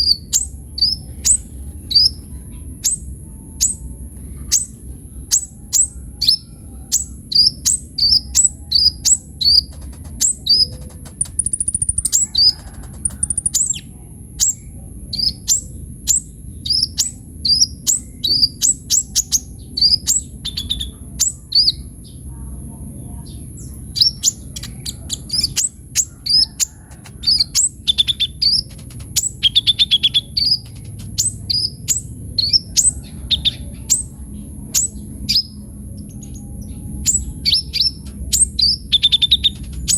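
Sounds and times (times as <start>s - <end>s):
bird trills: 0.0s - 21.8s, 23.6s - 39.9s.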